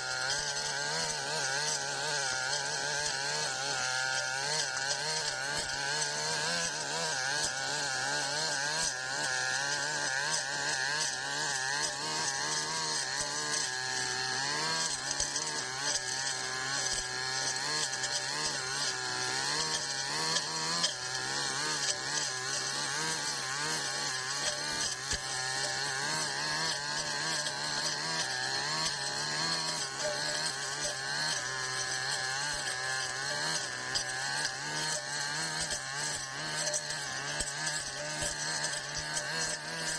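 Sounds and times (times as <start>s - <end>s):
brush cutter engine cutting grass: 0.0s - 39.9s.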